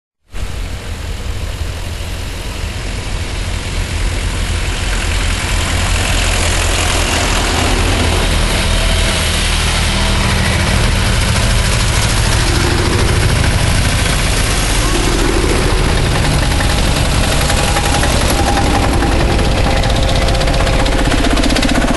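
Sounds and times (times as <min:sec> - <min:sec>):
tractor engines chugging: 0:01.6 - 0:21.9.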